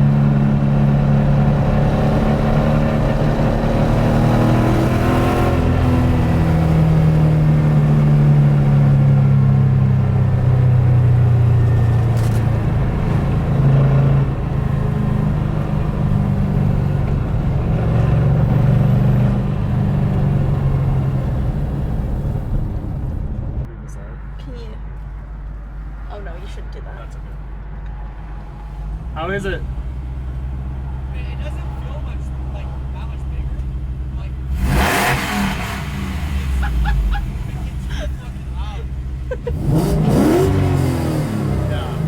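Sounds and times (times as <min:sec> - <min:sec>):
car engine revving: 0:00.0 - 0:23.7, 0:25.7 - 0:42.0.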